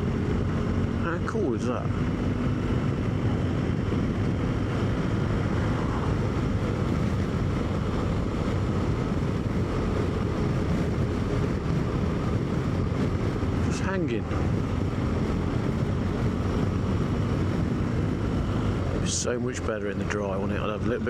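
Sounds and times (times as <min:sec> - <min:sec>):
motorcycle engine running: 0:00.0 - 0:19.2
wind rush over microphone: 0:00.0 - 0:21.0.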